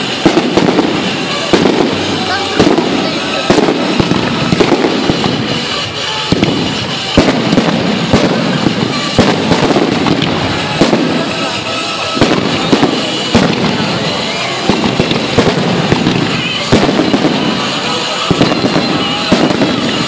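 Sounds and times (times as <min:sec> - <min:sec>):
firework crackle: 0:00.0 - 0:20.0
firework shells bursting: 0:00.0 - 0:20.0.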